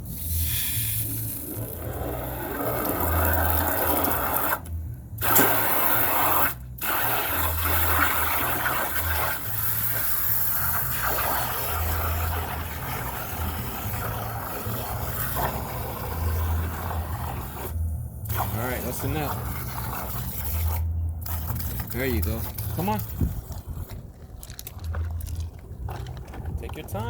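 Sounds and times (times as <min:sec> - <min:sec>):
water spraying on plastic toys: 0:00.1 - 0:04.6, 0:05.2 - 0:17.7, 0:18.3 - 0:23.3.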